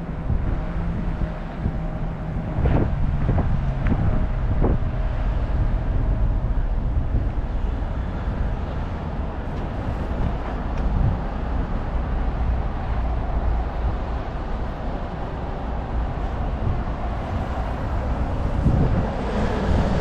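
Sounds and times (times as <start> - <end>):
bicycle road noise: 0.0 - 20.0
wind rumbling on microphone: 0.0 - 20.0.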